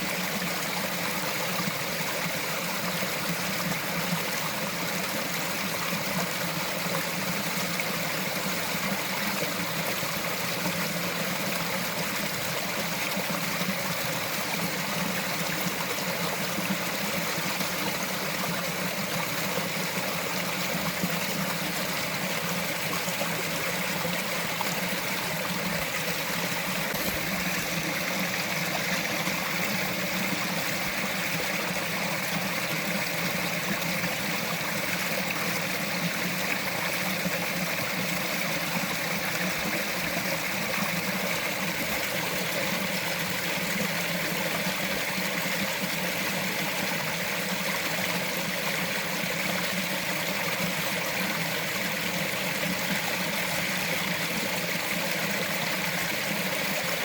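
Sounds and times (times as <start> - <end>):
stream trickling over rocks: 0.0 - 57.0.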